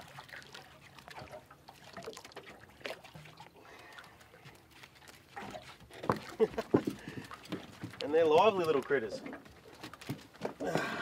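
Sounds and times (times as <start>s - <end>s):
faint water drips: 0.0s - 11.0s.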